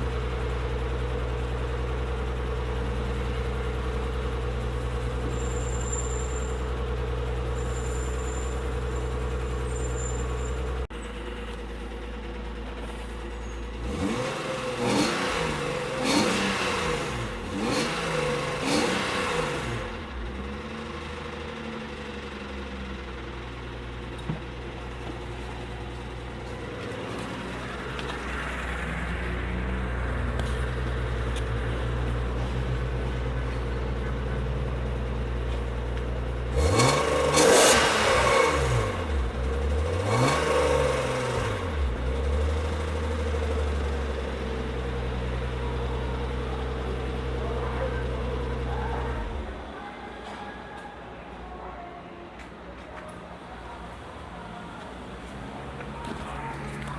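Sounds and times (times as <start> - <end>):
car engine idling and revving: 0.0 - 51.6, 52.3 - 56.9.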